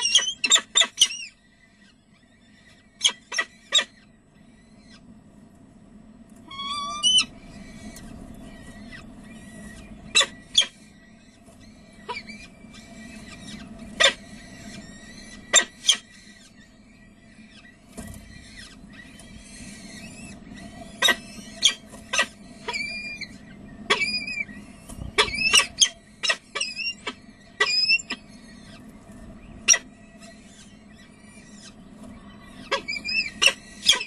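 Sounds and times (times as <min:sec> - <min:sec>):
falcon chicks squealing: 0:00.0 - 0:05.1, 0:06.4 - 0:34.0
low hum: 0:00.0 - 0:34.0.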